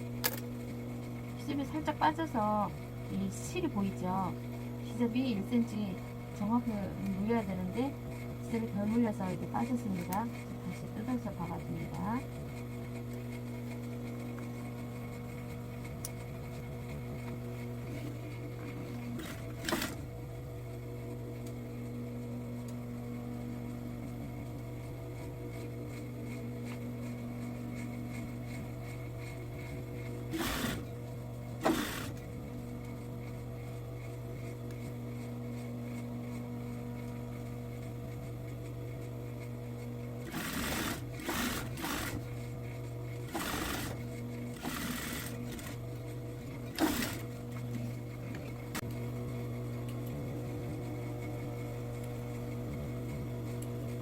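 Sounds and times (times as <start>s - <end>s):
sewing machine humming: 0.0s - 22.2s, 23.4s - 54.0s.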